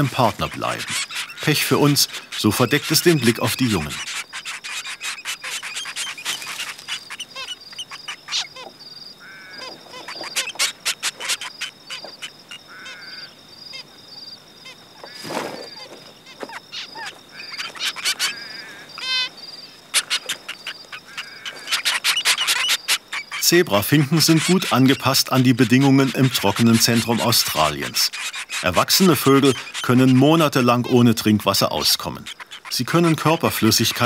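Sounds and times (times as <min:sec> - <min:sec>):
finches chirping: 0:00.0 - 0:34.0.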